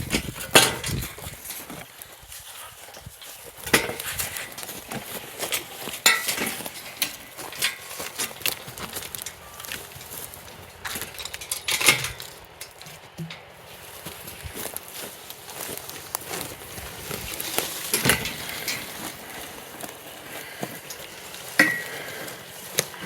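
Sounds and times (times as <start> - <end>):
footsteps: 0.0 - 23.0.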